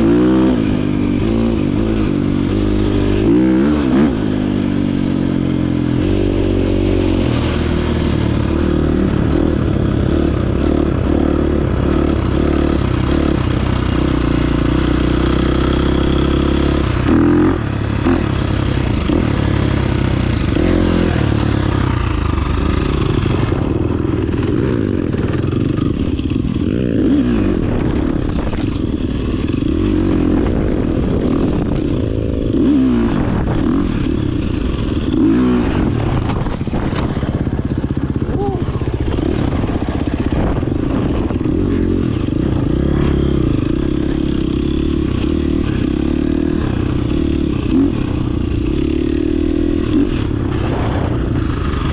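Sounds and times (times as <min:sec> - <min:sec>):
dirt bike engine running: 0:00.0 - 0:51.9.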